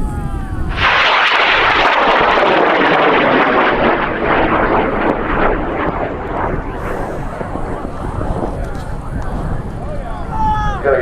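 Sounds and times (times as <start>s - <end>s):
rocket motor roaring with crackling: 0.7s - 11.0s.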